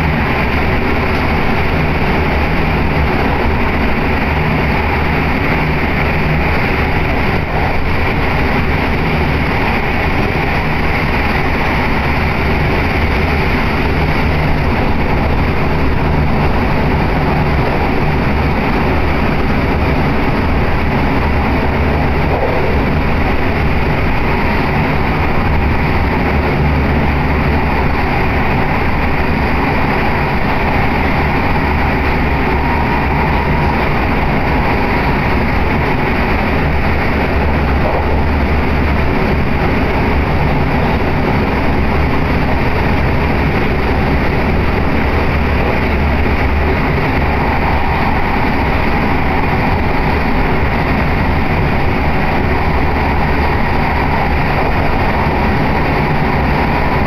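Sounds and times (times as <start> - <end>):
train interior running rumble: 0.0 - 57.0.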